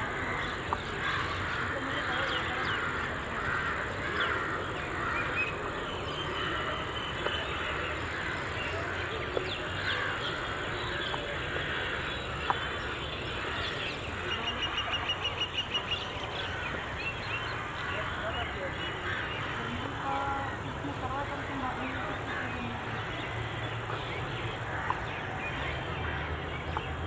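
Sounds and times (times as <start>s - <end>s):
birds chirping and calling: 0.0s - 27.0s.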